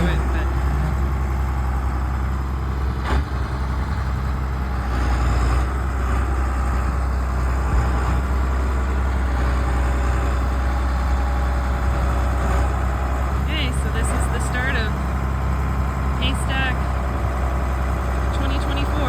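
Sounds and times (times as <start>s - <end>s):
tractor engine humming: 0.0s - 19.0s.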